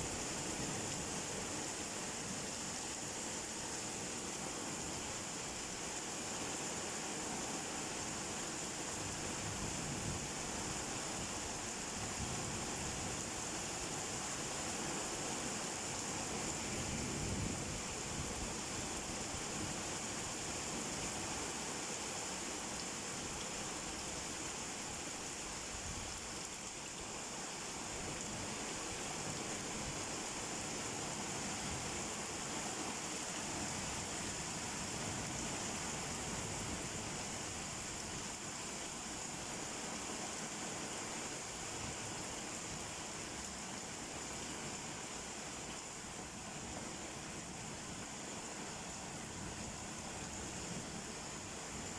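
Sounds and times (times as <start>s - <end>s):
steady rainfall: 0.0s - 51.9s.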